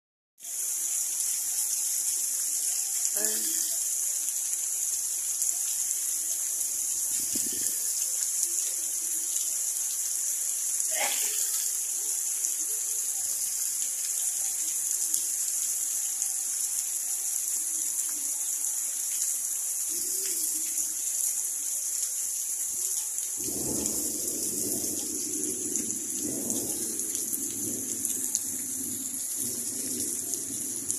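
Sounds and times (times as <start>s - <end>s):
heavy rain falling: 0.4s - 30.9s.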